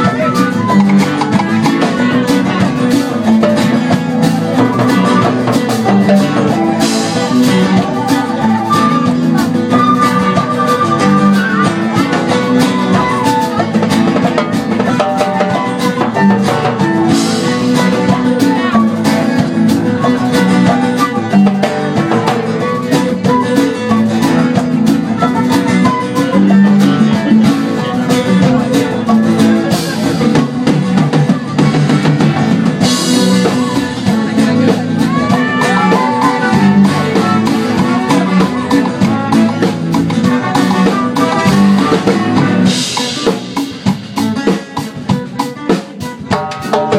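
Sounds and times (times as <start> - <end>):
flute: 0.0 - 30.1, 32.8 - 43.5
drums: 0.0 - 46.9
strummed acoustic guitar: 0.0 - 46.9.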